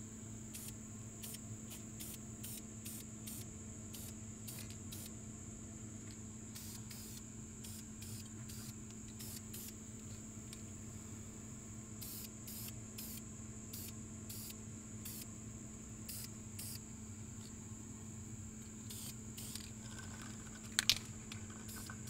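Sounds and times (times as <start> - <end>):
faint hiss and low hum: 0.0 - 22.0.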